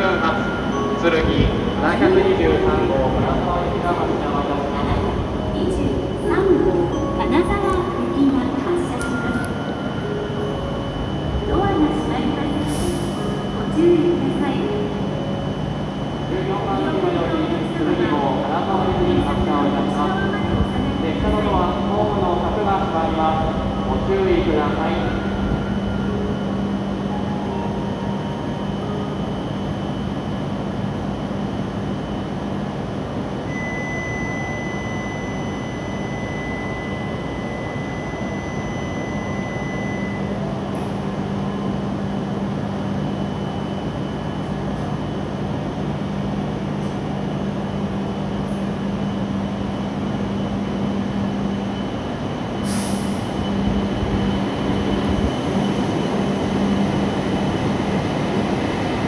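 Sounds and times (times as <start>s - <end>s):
steady high tone: 0.0s - 59.0s
train equipment humming: 0.0s - 59.0s
train pulling out: 0.0s - 59.0s.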